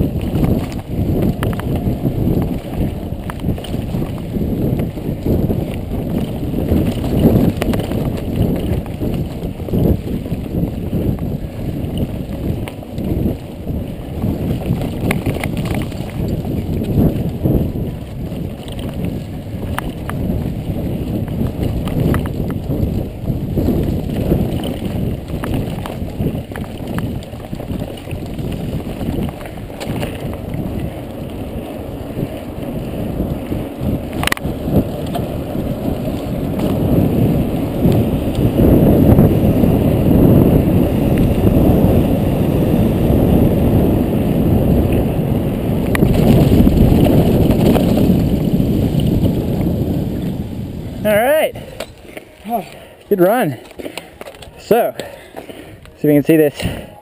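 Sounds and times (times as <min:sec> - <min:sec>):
bike rattles and clicks: 0:00.0 - 0:57.0
wind and tyre noise: 0:00.0 - 0:57.0.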